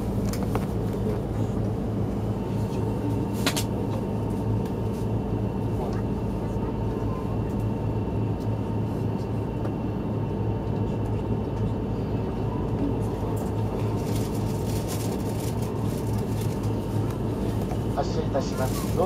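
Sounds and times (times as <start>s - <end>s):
low hum inside train car: 0.0s - 19.0s.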